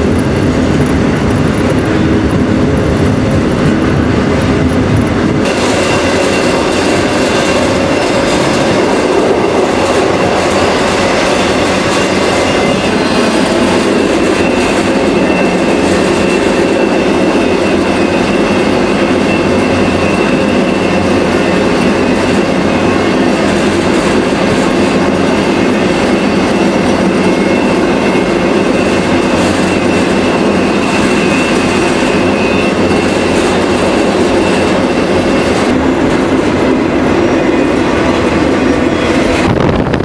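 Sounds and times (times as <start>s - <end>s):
train cars rattling: 0.0s - 40.0s
train wheels on rails: 0.0s - 40.0s.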